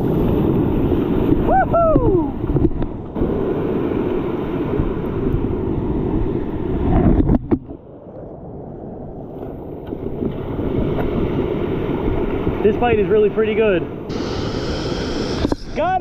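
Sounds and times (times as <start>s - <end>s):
ocean surf washing up beach: 0.0s - 7.3s, 8.0s - 16.0s.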